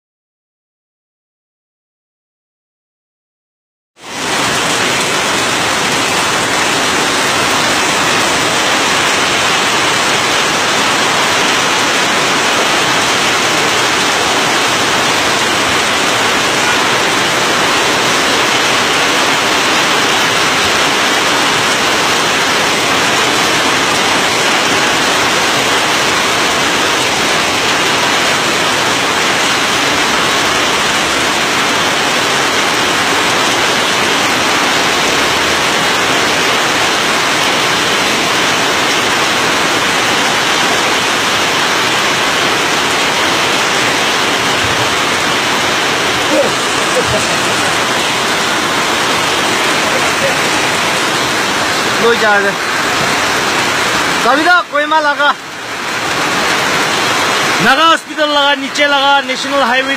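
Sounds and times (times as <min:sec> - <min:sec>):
heavy rain: 0:04.0 - 0:59.9
rushing floodwater: 0:04.0 - 0:59.9.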